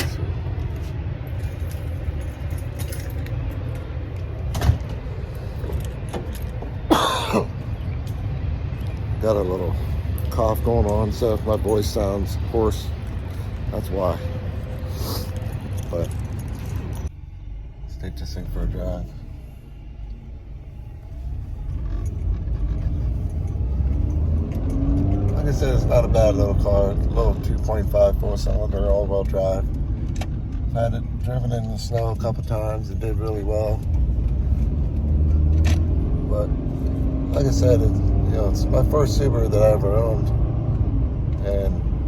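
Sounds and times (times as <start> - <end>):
low rumble: 0.0 - 37.2
car engine driving off: 0.0 - 41.9.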